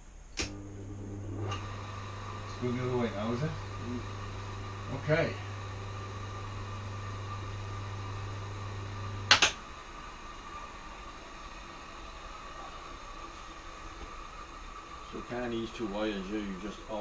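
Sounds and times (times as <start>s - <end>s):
lathe motor humming: 0.0s - 17.0s
switch clicking off: 0.2s - 14.8s.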